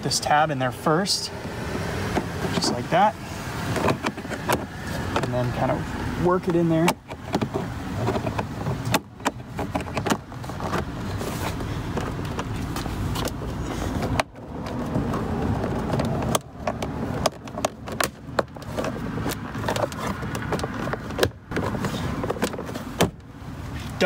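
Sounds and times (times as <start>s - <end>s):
rustling and scraping of panel: 2.1s - 24.0s.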